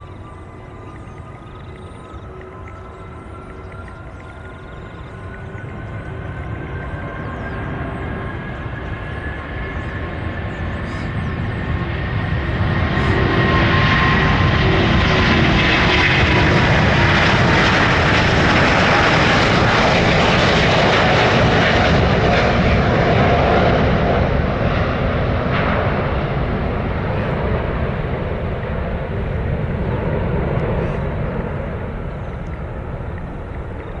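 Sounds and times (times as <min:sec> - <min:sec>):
high engine whine: 0:00.0 - 0:34.0
jet engines roaring at takeoff: 0:00.0 - 0:34.0.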